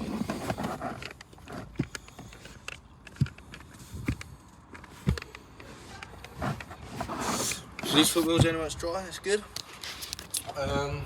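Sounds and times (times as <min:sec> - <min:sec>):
rustling of car carpets: 0:00.0 - 0:11.0.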